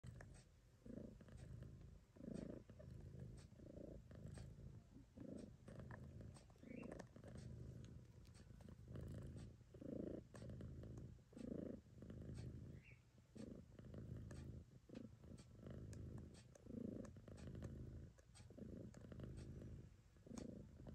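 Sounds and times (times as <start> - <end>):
cat purring: 0.0 - 20.9.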